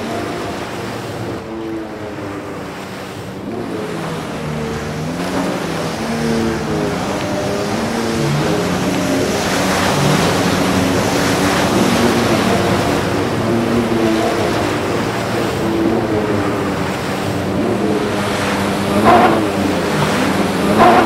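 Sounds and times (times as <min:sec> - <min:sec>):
jet ski engines racing: 0:00.0 - 0:21.0
jet ski passing by: 0:00.0 - 0:21.0
water and wind noise: 0:00.0 - 0:21.0.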